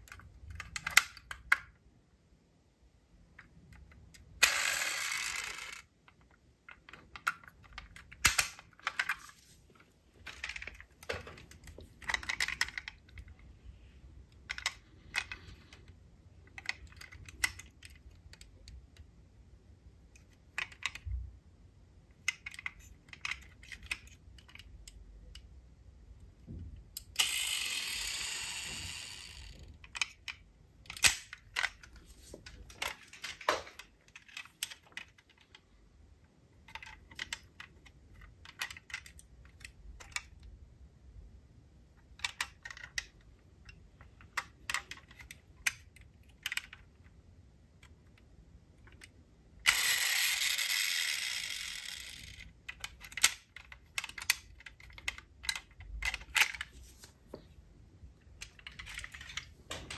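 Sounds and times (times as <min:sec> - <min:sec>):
toy cars clicking and knocking: 0:00.0 - 0:01.8, 0:03.3 - 0:09.4, 0:10.2 - 0:13.4, 0:14.3 - 0:19.1, 0:20.1 - 0:21.3, 0:22.1 - 0:25.5, 0:26.4 - 0:35.7, 0:36.6 - 0:40.6, 0:42.0 - 0:57.4, 0:58.2 - 0:59.9.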